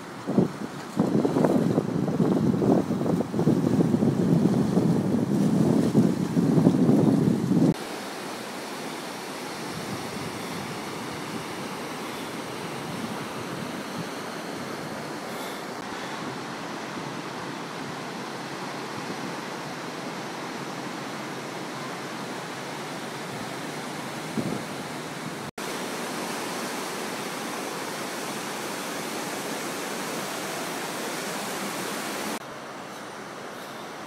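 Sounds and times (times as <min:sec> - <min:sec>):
small waves breaking on beach: 0:00.0 - 0:34.0.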